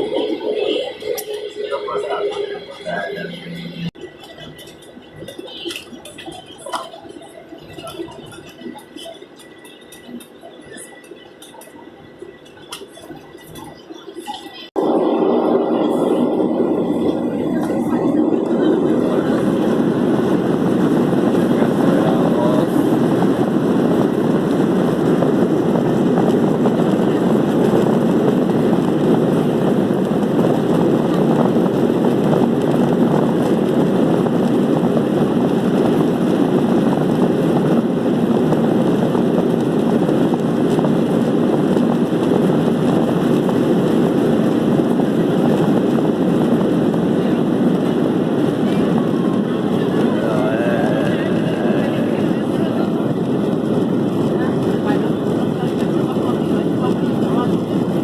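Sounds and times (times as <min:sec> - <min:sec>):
airliner engine rumble in cabin: 0:00.0 - 0:58.0.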